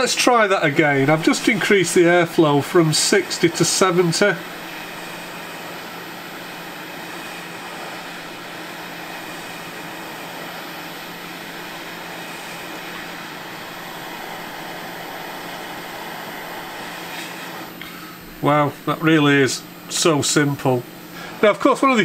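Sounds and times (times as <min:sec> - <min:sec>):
hot air blower rushing: 0:00.0 - 0:22.0.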